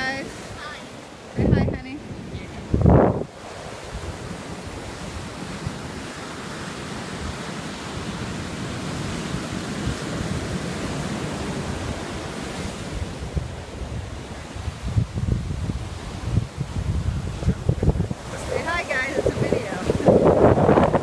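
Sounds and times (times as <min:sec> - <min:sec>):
ocean surf breaking: 0:00.0 - 0:21.0
wind gusting on microphone: 0:00.0 - 0:21.0.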